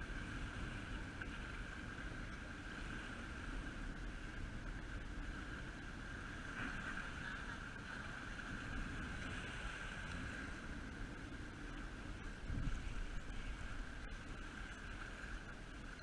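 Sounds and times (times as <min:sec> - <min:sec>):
continuous hiss: 0:00.0 - 0:16.0
wind rumble on microphone: 0:00.0 - 0:16.0.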